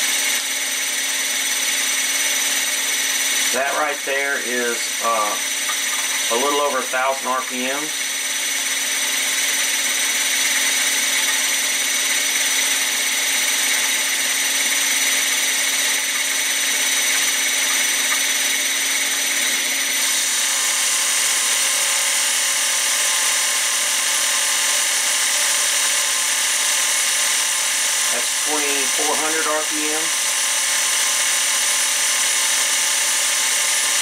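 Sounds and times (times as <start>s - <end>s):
milling machine motor whining: 0.0s - 34.0s.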